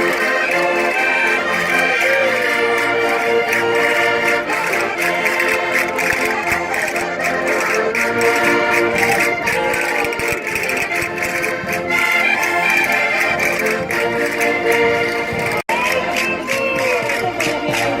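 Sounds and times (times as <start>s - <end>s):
button accordions playing folk tune: 0.0s - 18.0s.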